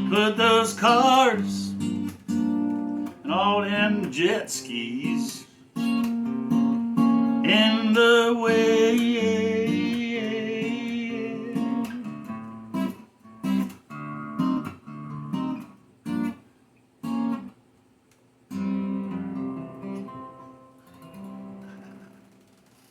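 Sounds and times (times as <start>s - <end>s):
acoustic guitar strummed chords: 0.0s - 16.4s, 17.0s - 17.6s, 18.5s - 22.6s.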